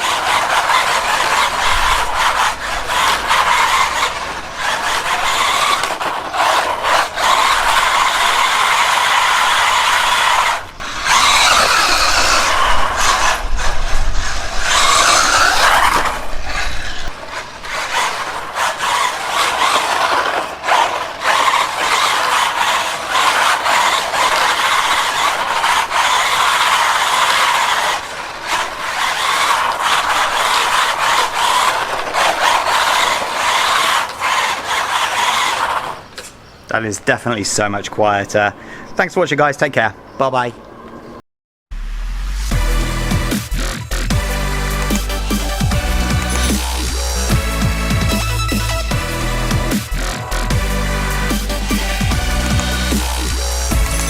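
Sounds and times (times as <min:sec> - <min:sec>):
toy car electric motor running: 0:00.0 - 0:36.4, 0:42.5 - 0:54.0.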